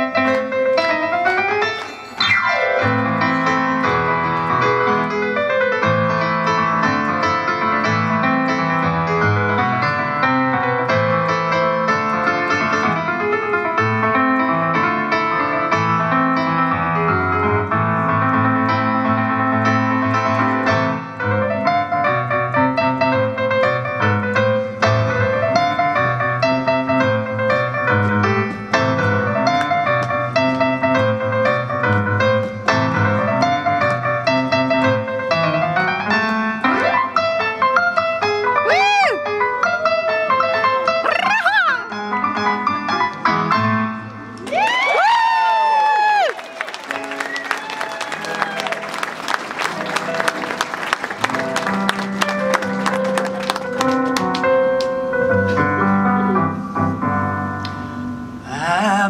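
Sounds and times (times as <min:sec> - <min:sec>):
keyboard piano playing: 0:00.0 - 0:59.0.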